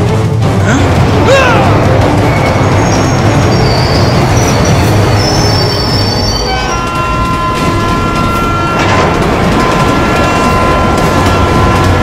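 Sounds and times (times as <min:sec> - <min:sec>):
steam train rumbling: 0:00.0 - 0:12.0
high squeals: 0:02.3 - 0:12.0.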